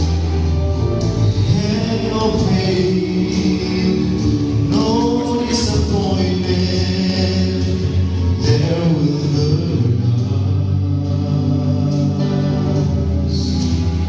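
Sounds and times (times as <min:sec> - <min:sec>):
instrumental bass line: 0:00.0 - 0:14.0
vocal quartet singing harmonies: 0:00.0 - 0:14.0.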